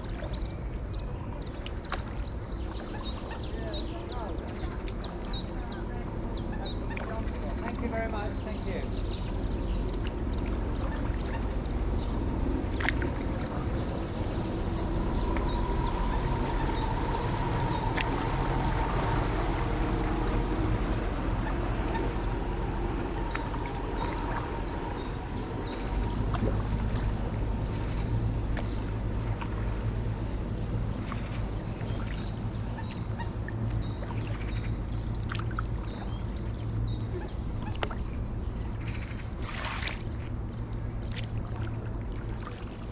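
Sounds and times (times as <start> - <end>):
low steady rumble: 0.0 - 42.9
paddle strokes in water: 0.0 - 42.9
water splashing and trickling: 0.0 - 42.9.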